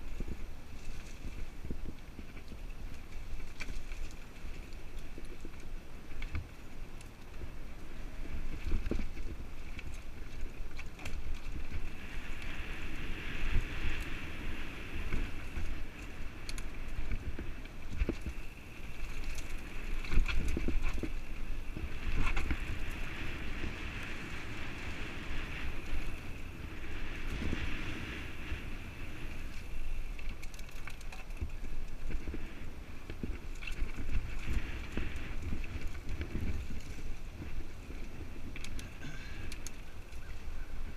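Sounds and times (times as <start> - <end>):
bike clicks and rattles: 0.0 - 40.9
wind buffeting microphone: 0.0 - 40.9.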